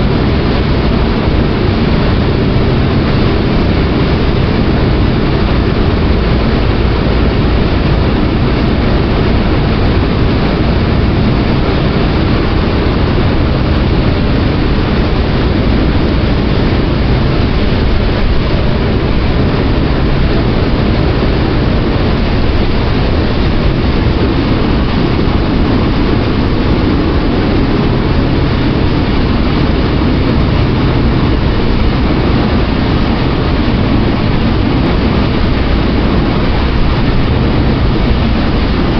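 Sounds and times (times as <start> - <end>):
constant rushing noise: 0.0 - 38.9
ferry engine drone: 0.0 - 38.9.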